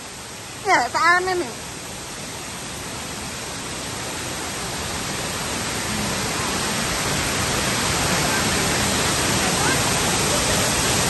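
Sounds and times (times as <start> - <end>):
waterfall rushing hiss: 0.0 - 11.0.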